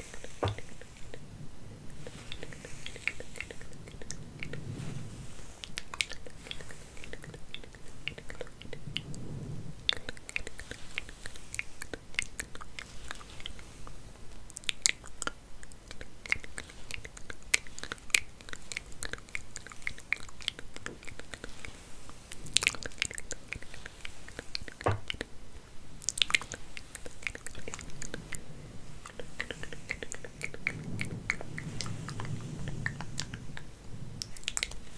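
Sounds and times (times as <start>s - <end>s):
hair crackling while combed: 0.0s - 34.9s.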